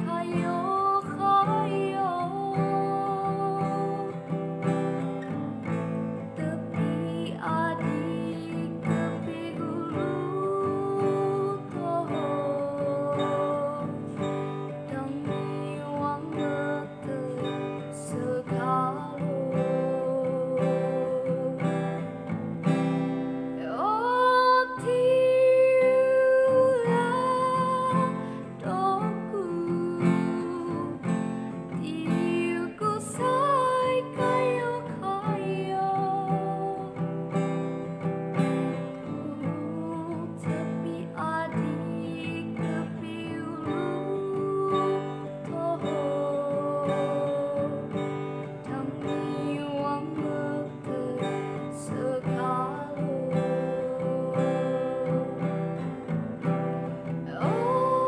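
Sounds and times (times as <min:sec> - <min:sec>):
strummed acoustic guitar: 0:00.0 - 0:58.0
woman singing: 0:00.0 - 0:58.0.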